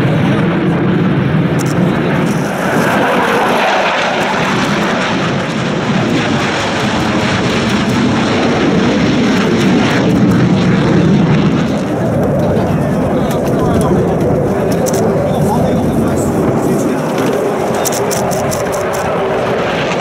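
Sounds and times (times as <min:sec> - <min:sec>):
jet engine rush: 0:00.0 - 0:20.0.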